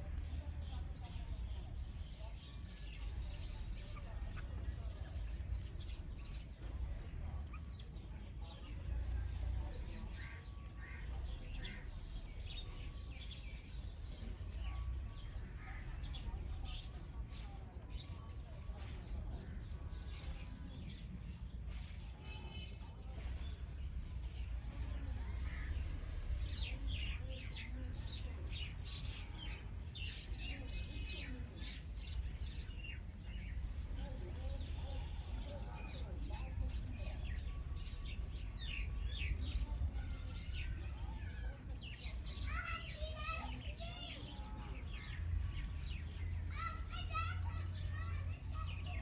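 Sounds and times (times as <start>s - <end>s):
low background rumble: 0.0s - 49.0s
small birds chirping: 0.0s - 49.0s.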